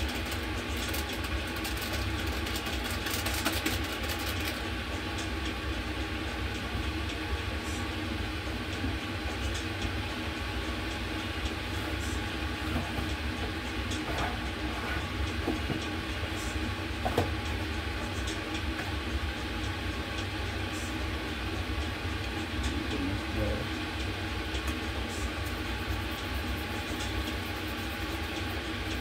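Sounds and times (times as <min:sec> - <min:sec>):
low mechanical rumble and hum: 0:00.0 - 0:29.0.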